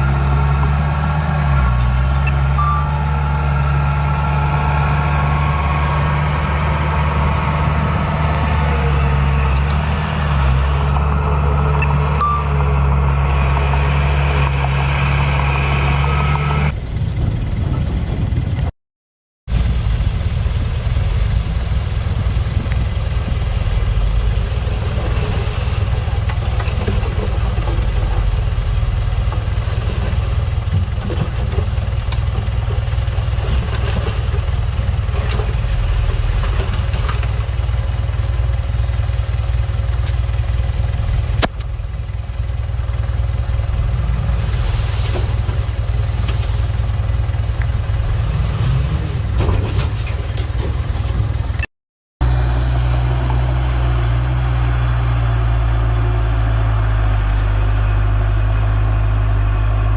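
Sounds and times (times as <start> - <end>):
diesel machinery engine rumbling: 0.0 - 18.7, 19.5 - 59.9.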